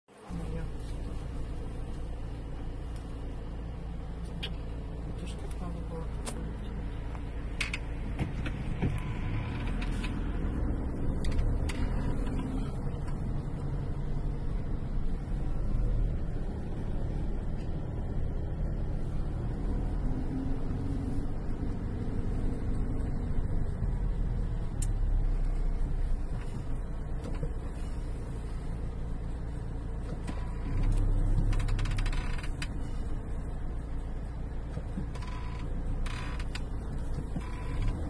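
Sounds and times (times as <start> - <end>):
car engine and road noise: 0.1 - 38.0.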